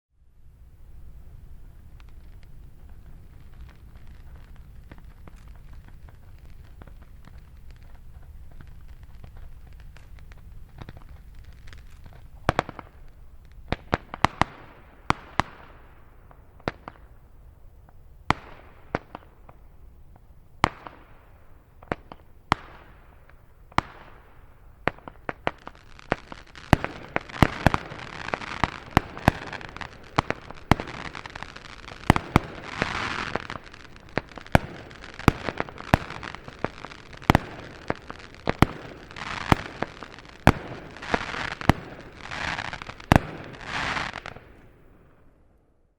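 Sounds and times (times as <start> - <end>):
dense firework crackle: 0.2 - 45.9
firework bangs with hiss: 0.6 - 45.2.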